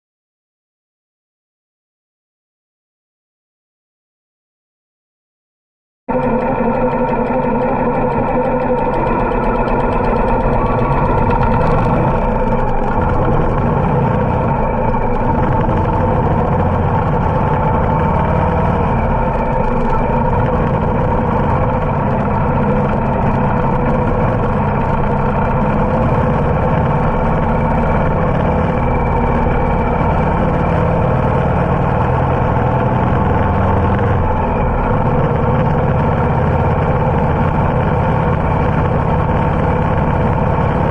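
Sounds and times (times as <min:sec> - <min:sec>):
motorcycle engine running: 0:06.1 - 0:40.9.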